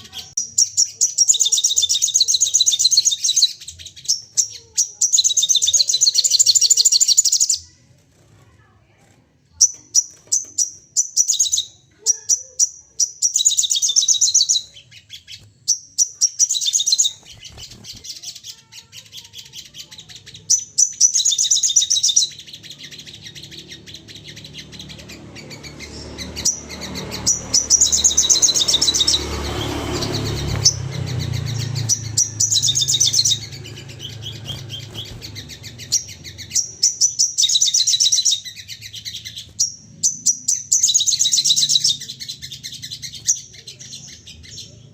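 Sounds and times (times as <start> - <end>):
birds chattering trills: 0.0 - 44.9.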